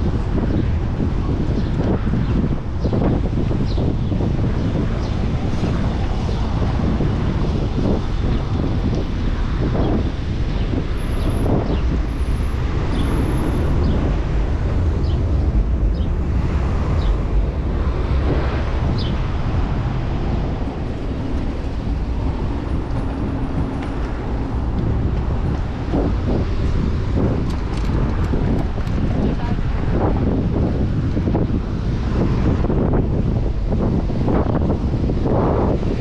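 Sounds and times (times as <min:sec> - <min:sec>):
road traffic: 0:00.0 - 0:36.0
wind rush on microphone: 0:00.0 - 0:36.0.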